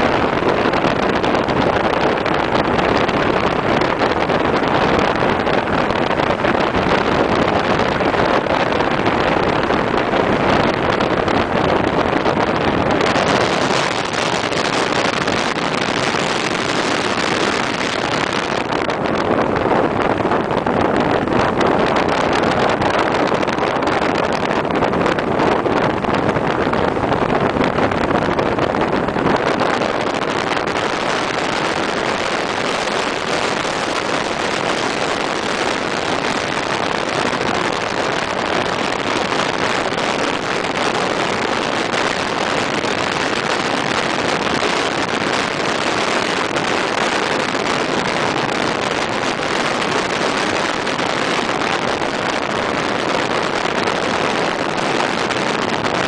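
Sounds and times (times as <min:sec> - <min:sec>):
wind rushing: 0:00.0 - 0:56.0.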